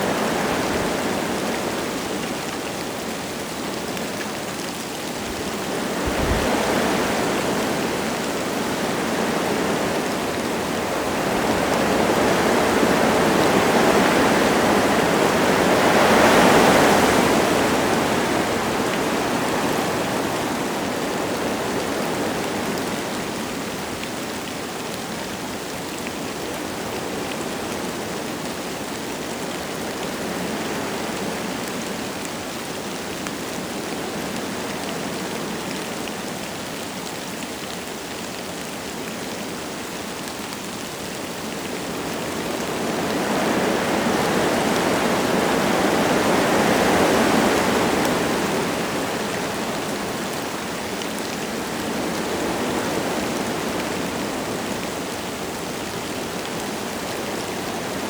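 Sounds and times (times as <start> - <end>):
light rain: 0.0 - 58.0
wind through trees: 0.0 - 58.0.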